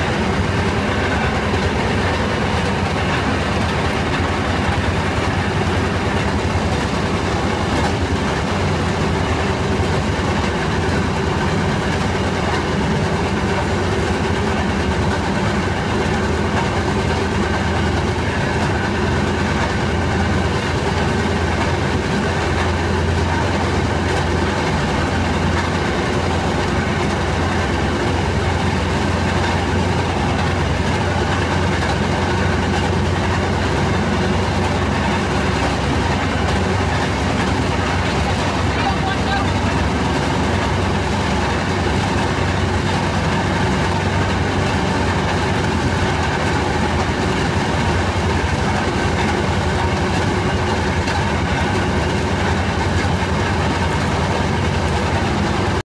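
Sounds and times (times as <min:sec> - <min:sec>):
wheels rolling on rails: 0:00.0 - 0:55.8.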